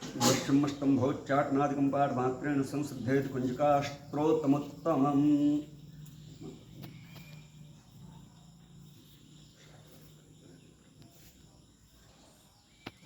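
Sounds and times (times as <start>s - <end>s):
faint low hum: 0.1s - 13.0s.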